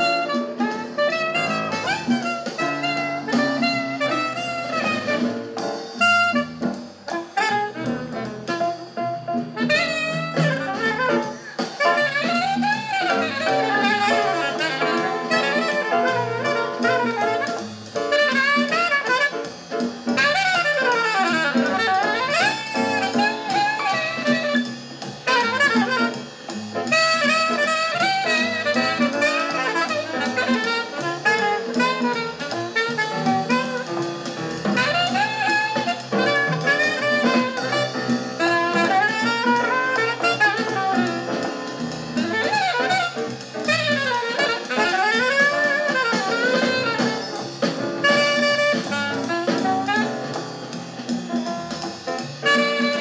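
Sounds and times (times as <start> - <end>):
jazz tune with saxophone and drums: 0.0 - 53.0.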